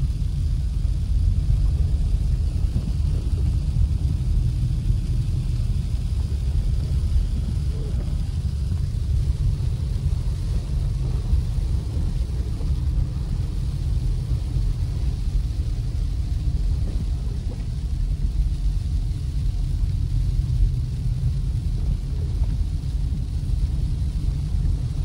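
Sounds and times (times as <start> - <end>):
vehicle driving on snow: 0.0 - 25.0.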